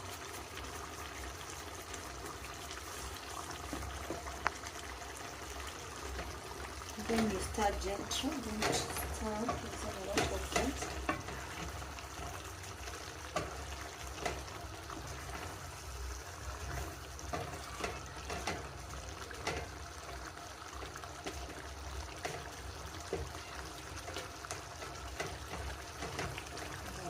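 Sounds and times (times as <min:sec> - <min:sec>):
stew simmering and bubbling: 0:00.0 - 0:27.0.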